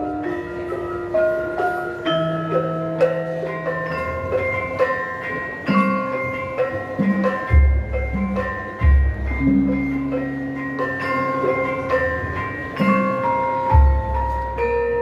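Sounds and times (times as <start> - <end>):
metallophones struck: 0.0 - 15.0.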